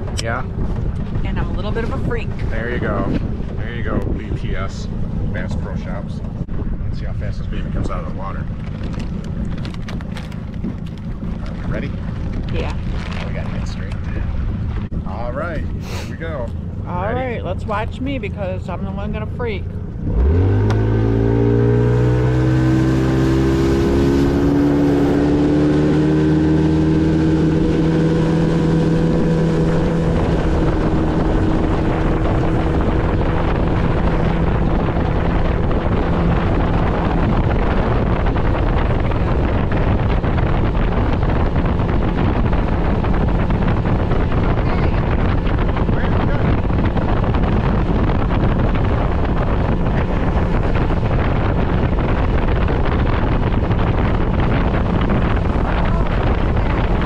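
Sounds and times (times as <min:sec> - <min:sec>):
boat motor at full throttle: 0:00.0 - 0:57.0
wind buffeting microphone: 0:00.0 - 0:57.0.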